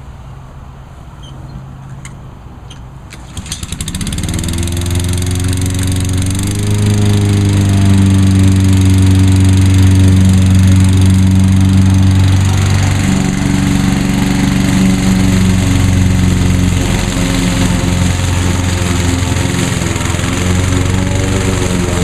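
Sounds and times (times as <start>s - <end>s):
lawn mower engine running: 3.0s - 22.0s.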